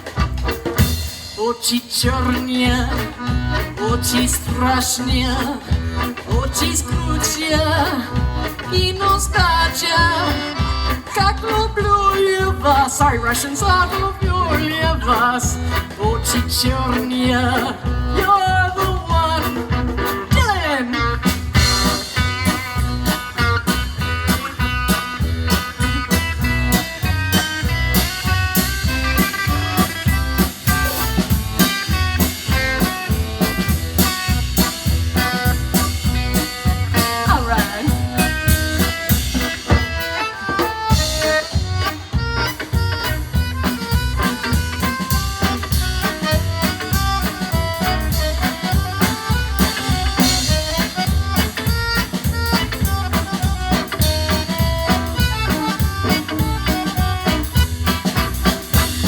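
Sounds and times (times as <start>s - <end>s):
accordion melody: 0.0s - 59.0s
drum kit steady beat: 0.0s - 59.0s
guitar melody: 0.0s - 59.0s.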